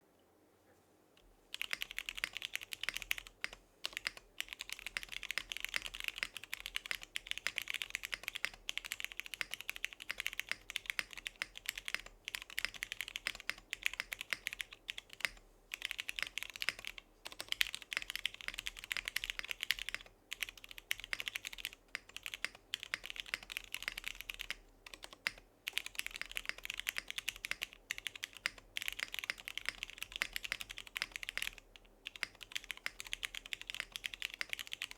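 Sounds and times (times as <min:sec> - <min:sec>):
mechanical keyboard typing: 0:01.5 - 0:34.9.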